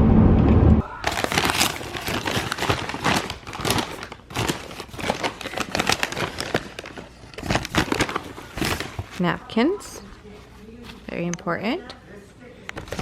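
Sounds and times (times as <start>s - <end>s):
paper bag and wrappers crinkling: 0.9s - 11.2s, 12.7s - 13.0s.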